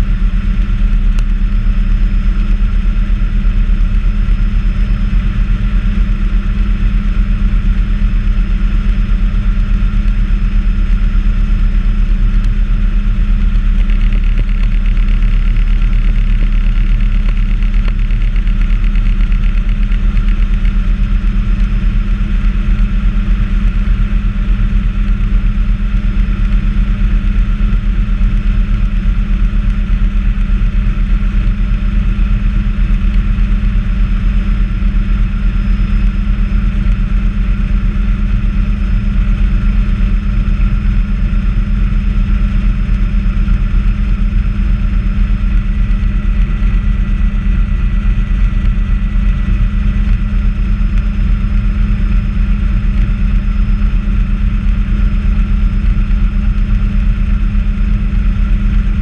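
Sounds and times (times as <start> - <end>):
helicopter low drone: 0.0 - 59.0.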